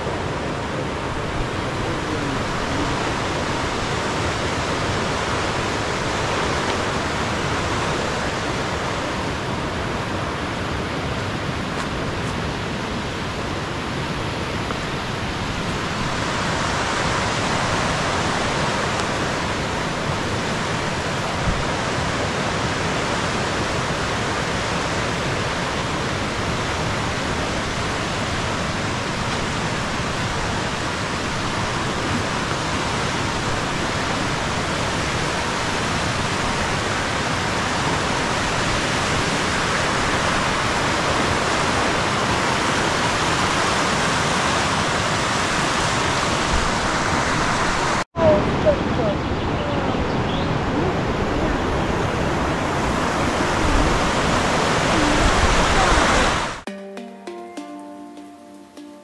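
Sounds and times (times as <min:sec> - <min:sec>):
mountain stream rushing: 0:00.0 - 0:56.7.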